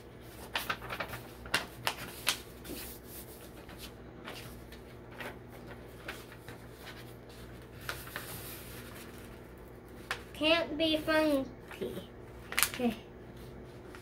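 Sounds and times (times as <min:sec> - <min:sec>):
paper rustling and crackling: 0:00.0 - 0:14.0.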